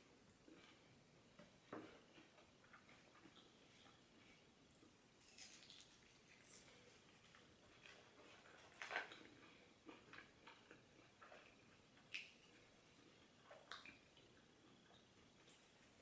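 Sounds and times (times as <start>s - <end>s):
chewing: 1.7s - 16.0s.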